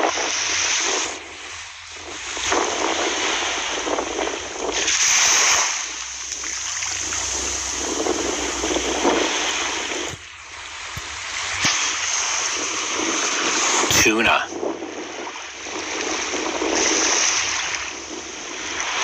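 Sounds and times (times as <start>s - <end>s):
water rushing and splashing: 0.0s - 14.5s, 15.2s - 19.0s.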